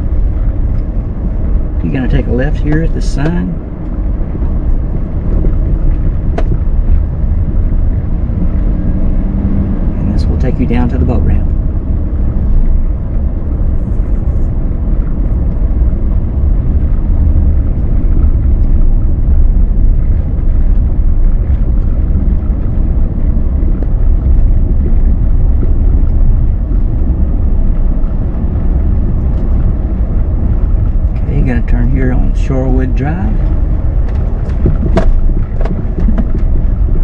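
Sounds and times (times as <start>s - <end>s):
vehicle engine and tyre rumble: 0.0s - 37.0s.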